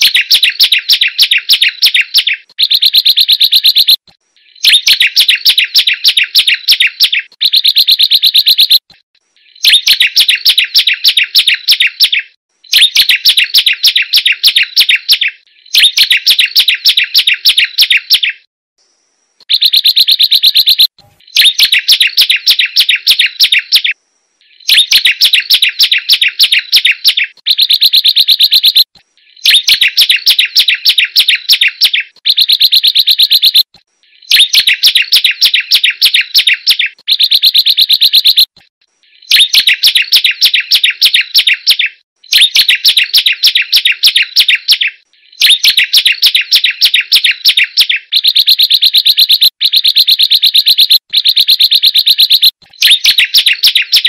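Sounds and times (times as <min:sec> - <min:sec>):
bird singing clicking notes: 0:00.0 - 0:18.5, 0:19.4 - 0:54.0.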